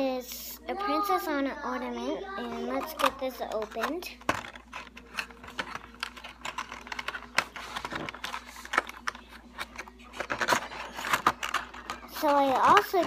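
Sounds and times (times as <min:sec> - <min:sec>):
cardboard and plastic box crinkling: 0:02.5 - 0:13.0.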